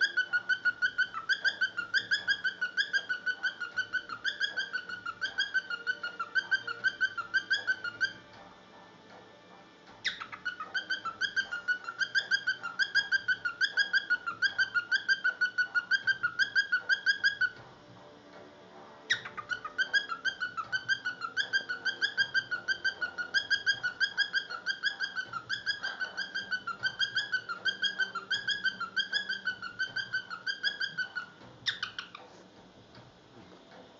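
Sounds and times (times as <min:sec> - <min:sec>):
cockatiel whistling warble: 0:00.0 - 0:08.3, 0:10.0 - 0:17.6, 0:19.1 - 0:32.2.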